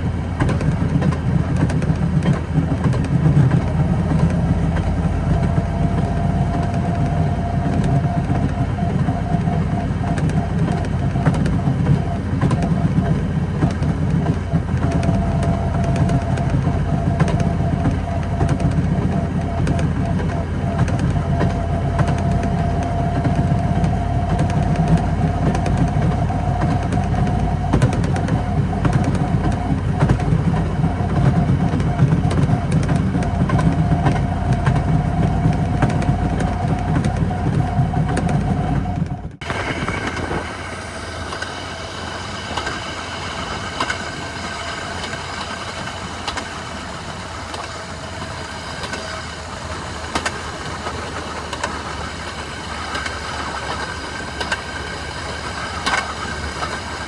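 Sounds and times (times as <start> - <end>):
rail motorcar engine and wheels: 0.0 - 57.0.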